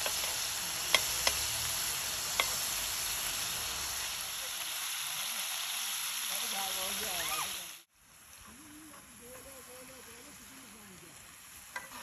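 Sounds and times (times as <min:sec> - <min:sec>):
meatballs sizzling in a pan: 0:00.0 - 0:12.0.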